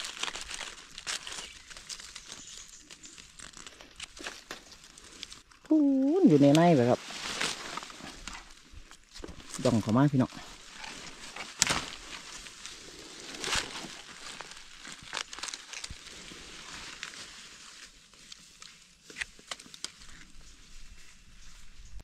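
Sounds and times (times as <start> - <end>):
twigs snapping: 0.0 - 20.6
dry leaves rustling and crackling: 0.0 - 22.0.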